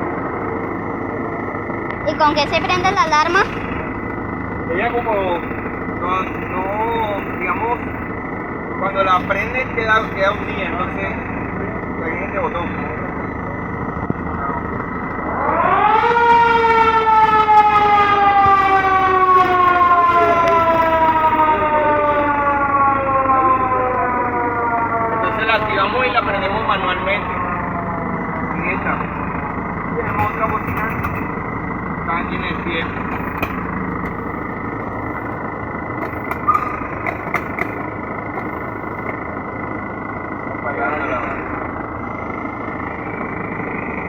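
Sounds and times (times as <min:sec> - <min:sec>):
fire truck engine idling: 0:00.0 - 0:44.0
mechanical siren wailing: 0:00.0 - 0:44.0
thin steady whine: 0:00.0 - 0:44.0.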